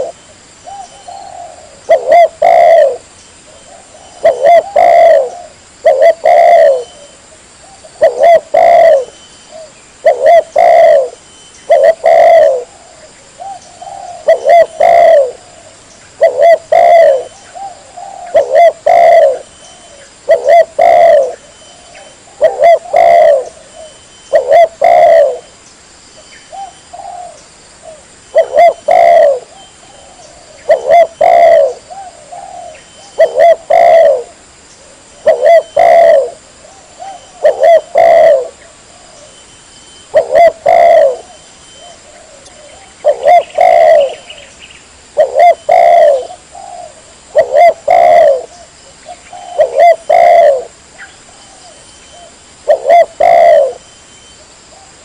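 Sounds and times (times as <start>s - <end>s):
dove cooing: 0.0s - 25.5s, 26.5s - 44.5s, 45.1s - 55.0s.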